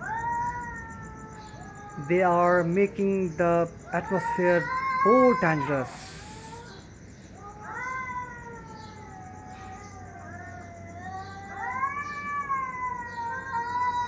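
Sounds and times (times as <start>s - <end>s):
cats wailing: 0.0s - 14.0s.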